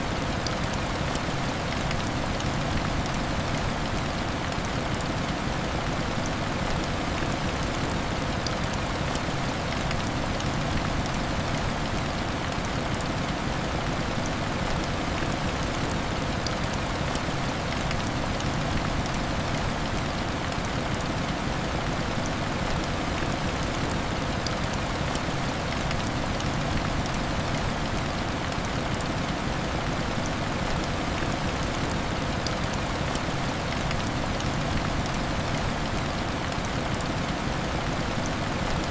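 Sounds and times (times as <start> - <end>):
heavy rain on window glass: 0.0 - 38.9.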